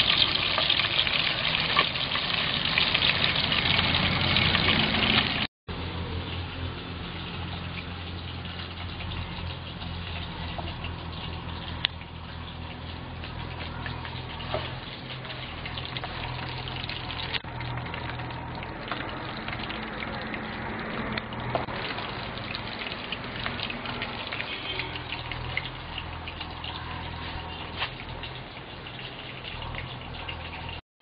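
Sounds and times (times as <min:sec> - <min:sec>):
deep-frying sizzle with pops: 0:00.0 - 0:05.5, 0:06.1 - 0:30.8.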